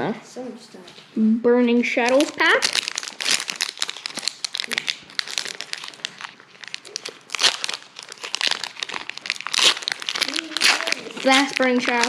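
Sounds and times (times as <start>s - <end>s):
foil wrapper tearing and crinkling: 2.0s - 12.0s.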